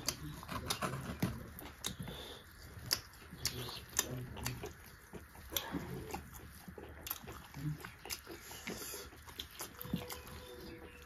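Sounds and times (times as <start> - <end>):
low hums through full mouth: 0.0 - 9.6
wet chewing and lip smacks: 0.0 - 11.0.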